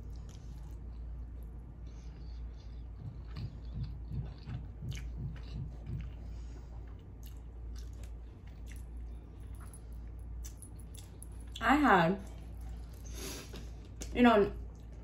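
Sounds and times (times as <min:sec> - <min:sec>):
person chewing food: 0:00.0 - 0:11.6, 0:12.2 - 0:15.0.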